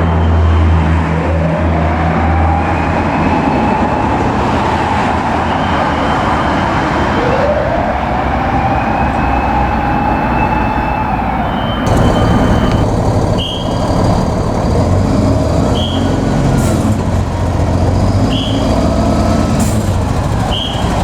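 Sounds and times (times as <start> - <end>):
traffic noise: 0.0 - 21.0
truck engine: 0.0 - 21.0
mechanical siren wailing: 1.6 - 21.0.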